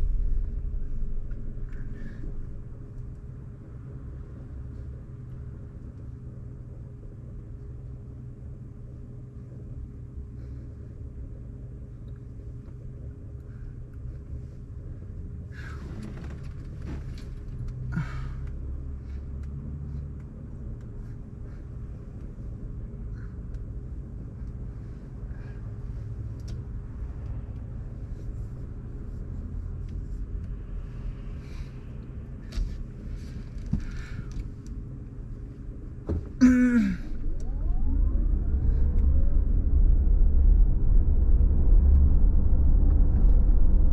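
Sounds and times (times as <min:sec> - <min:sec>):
car road and engine rumble: 0:00.0 - 0:43.9.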